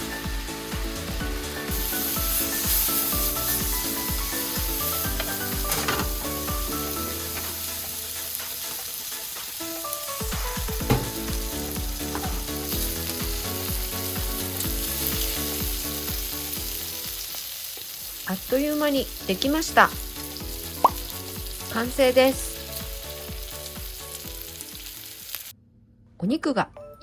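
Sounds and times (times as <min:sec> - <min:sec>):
food sizzling in a frying pan: 0:00.0 - 0:25.5
light background music: 0:00.0 - 0:25.5, 0:26.5 - 0:27.0.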